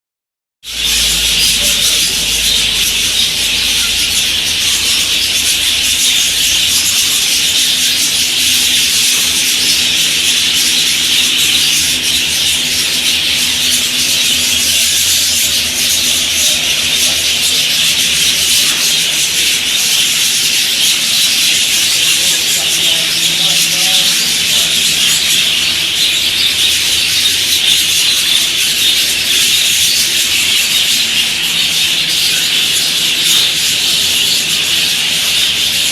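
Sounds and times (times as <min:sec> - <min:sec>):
budgerigars chattering: 0:00.7 - 0:35.9.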